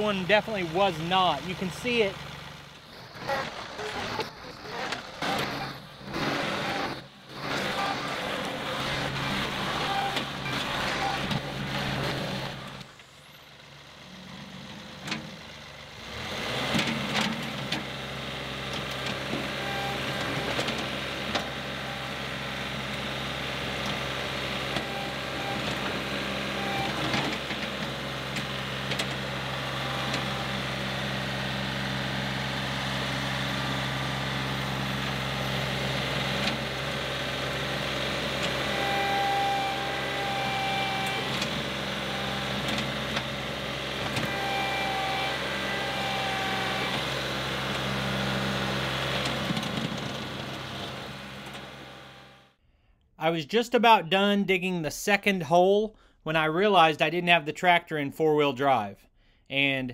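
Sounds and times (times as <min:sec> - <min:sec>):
tractor diesel engine running: 0:00.0 - 0:52.6.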